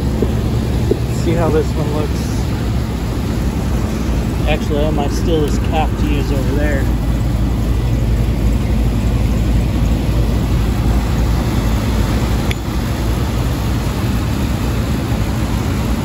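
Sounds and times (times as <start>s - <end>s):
air conditioning unit humming: 0.0s - 16.0s.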